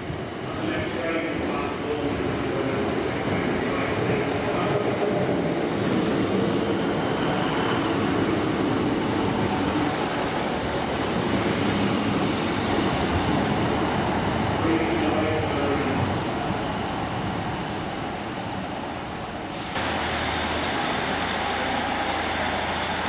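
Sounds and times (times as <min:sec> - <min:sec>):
diesel train engine: 0:00.0 - 0:23.0
train wheels on rails: 0:00.0 - 0:23.0.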